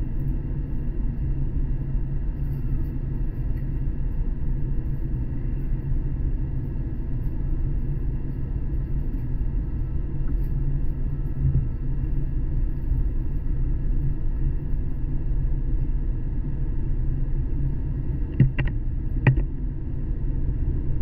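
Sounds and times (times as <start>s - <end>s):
train interior rumble and hum: 0.0s - 21.0s.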